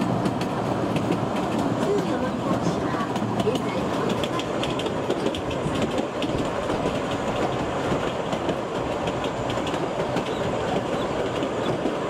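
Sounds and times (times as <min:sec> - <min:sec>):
train wheels clattering on track: 0:00.0 - 0:12.0.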